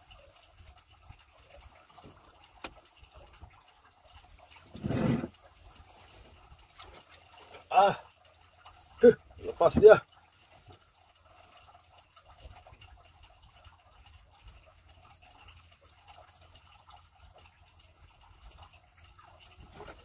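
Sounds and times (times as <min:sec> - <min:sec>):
water lapping against boat hull: 0:00.1 - 0:20.0.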